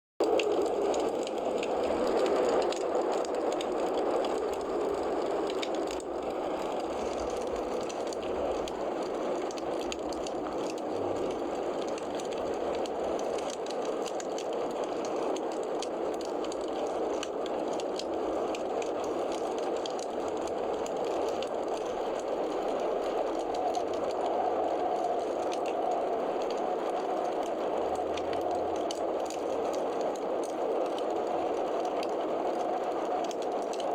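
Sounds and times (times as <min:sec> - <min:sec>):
wood fire crackling: 0:00.2 - 0:33.9.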